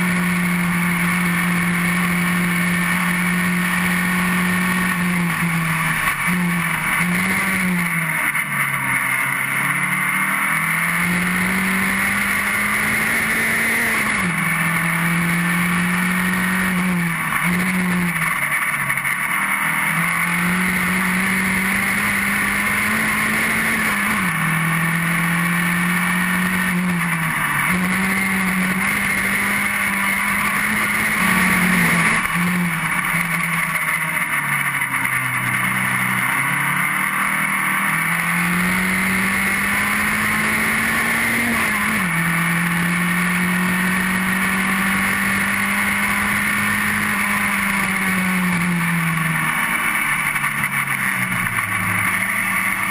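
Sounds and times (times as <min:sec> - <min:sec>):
racing car engine revving: 0:00.0 - 0:52.9.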